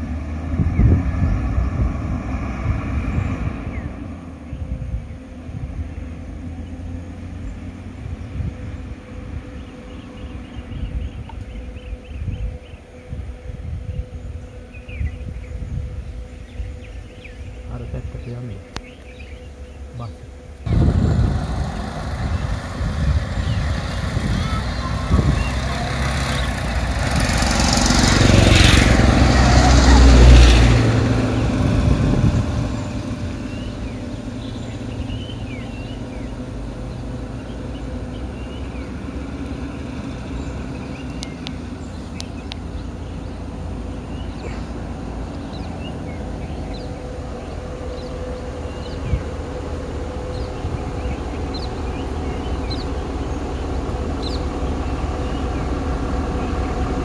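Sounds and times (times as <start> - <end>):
vehicle engine idling: 0.0 - 57.0
vehicles driving past: 0.0 - 57.0.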